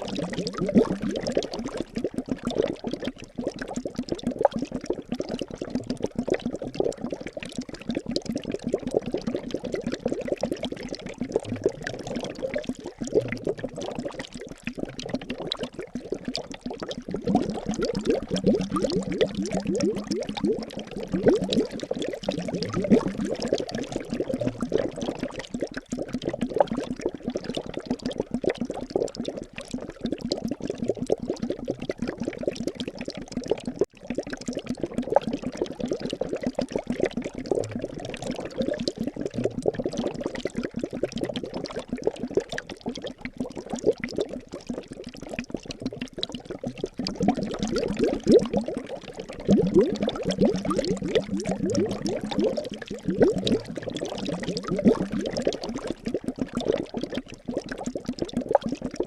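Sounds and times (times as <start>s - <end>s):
liquid bubbling: 0.0s - 59.0s.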